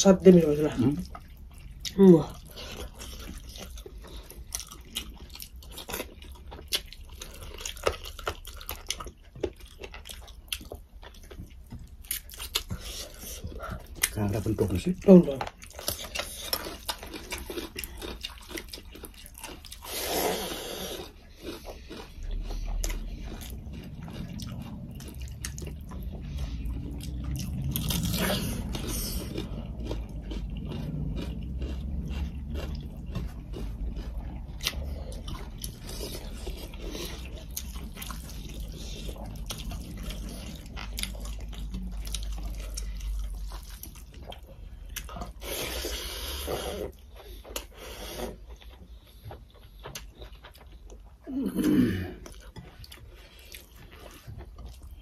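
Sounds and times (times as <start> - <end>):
crunching and chewing cucumber: 0.0 - 55.0.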